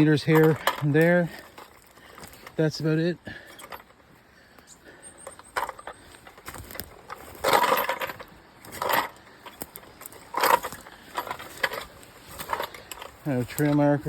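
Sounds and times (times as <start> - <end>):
footsteps crunching through undergrowth: 0.0 - 14.0.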